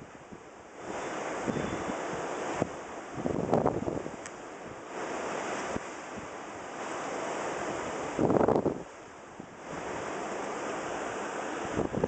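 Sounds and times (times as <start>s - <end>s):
waves: 0.0s - 12.0s
wind blowing over microphone: 0.0s - 12.0s.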